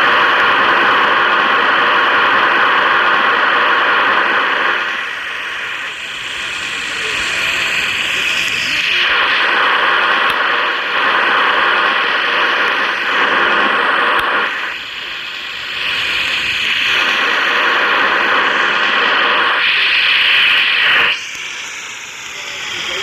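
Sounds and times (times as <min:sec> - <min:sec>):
wall fan rushing air: 0:00.0 - 0:23.0.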